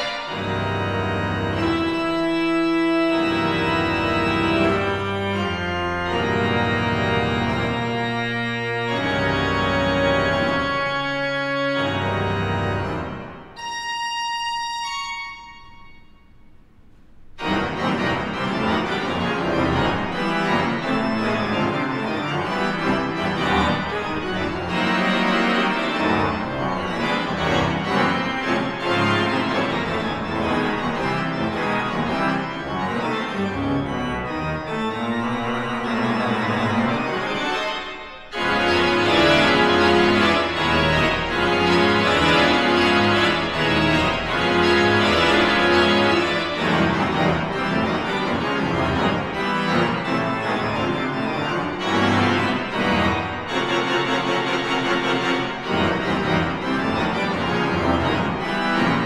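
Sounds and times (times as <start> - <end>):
organ playing dissonant chords: 0.0 - 59.0.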